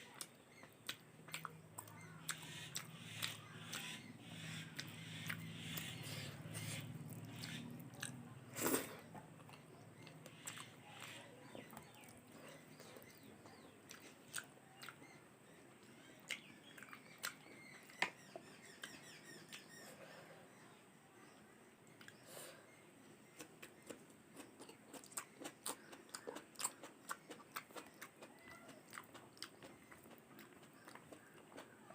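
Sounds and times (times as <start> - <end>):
chewing food: 0.0 - 19.7, 23.2 - 31.9.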